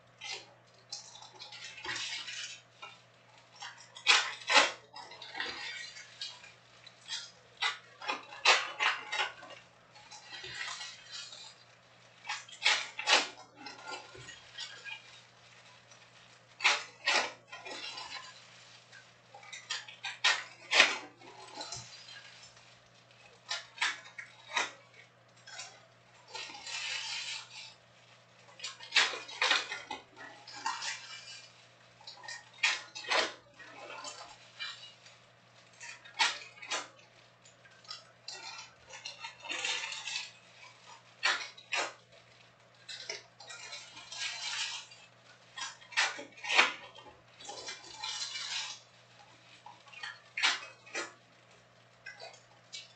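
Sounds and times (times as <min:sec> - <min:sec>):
pack wrapper crinkling: 0:02.8 - 0:46.0.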